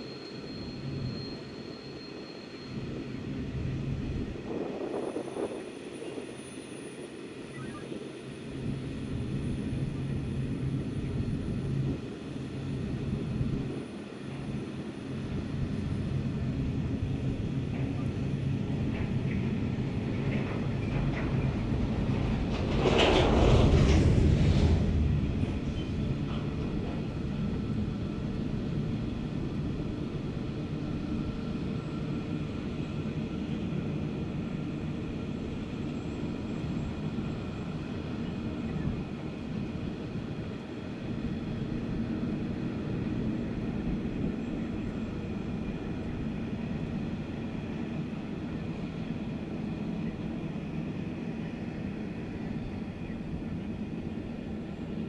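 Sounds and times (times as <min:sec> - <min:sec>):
train wagons rumbling on track: 0:00.0 - 0:55.0.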